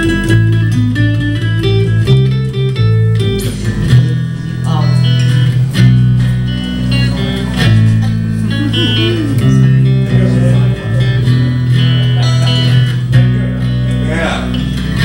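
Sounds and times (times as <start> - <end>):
bass line: 0.0 - 15.0
strummed guitar chords: 0.0 - 15.0.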